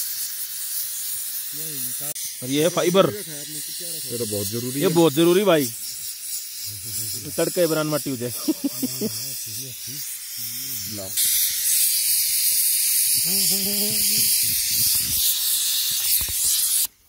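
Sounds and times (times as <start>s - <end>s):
pressure cooker whistle hissing: 0.0s - 17.0s.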